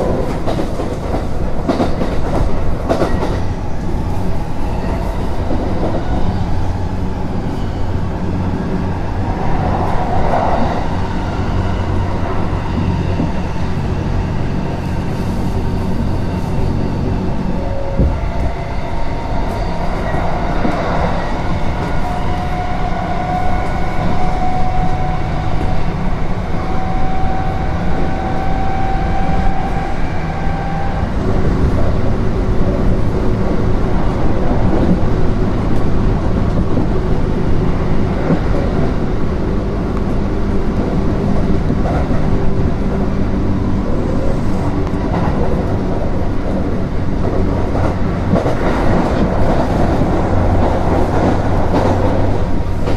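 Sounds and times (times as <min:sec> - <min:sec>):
wheels rumbling on rails: 0:00.0 - 0:52.9.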